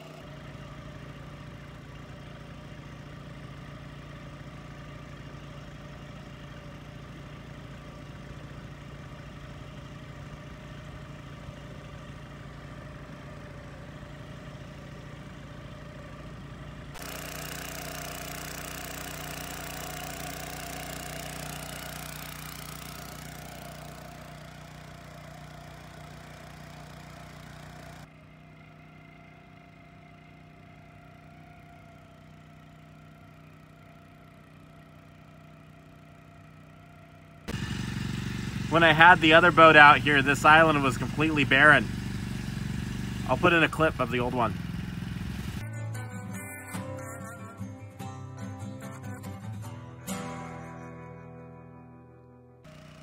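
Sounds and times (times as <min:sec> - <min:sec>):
outboard motor running: 0:00.0 - 0:50.3, 0:52.6 - 0:53.0.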